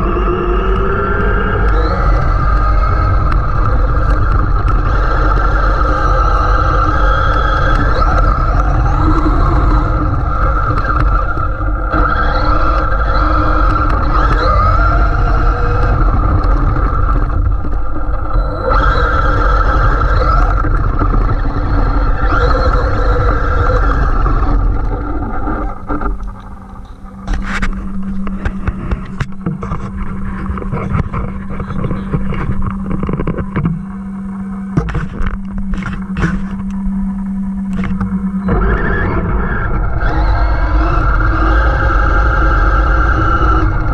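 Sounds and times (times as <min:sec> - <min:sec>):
electric motor whining: 0:00.0 - 0:43.9
heavy rumble from tyres: 0:00.0 - 0:43.9
steady low hum: 0:00.0 - 0:43.9.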